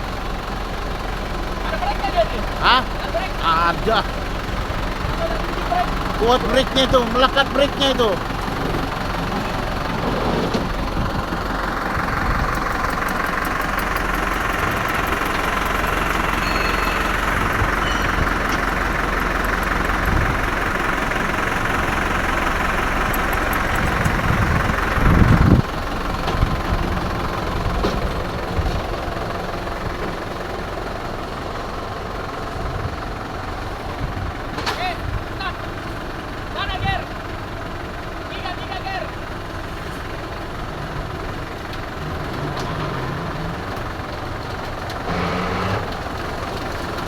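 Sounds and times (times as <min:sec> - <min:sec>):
low engine surge: 0:00.0 - 0:37.9
tractor diesel engine running: 0:00.0 - 0:47.0.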